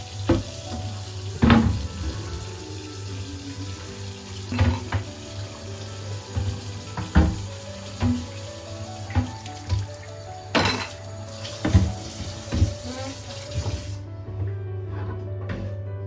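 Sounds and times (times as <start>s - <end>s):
tap water running into sink: 0.0s - 14.0s
water splashing: 0.0s - 14.0s
soft background music: 0.0s - 16.0s.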